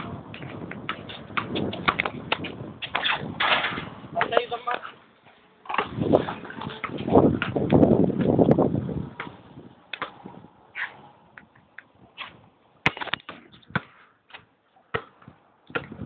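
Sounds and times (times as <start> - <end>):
basketball bouncing on asphalt: 0.0 - 4.8, 5.7 - 16.0.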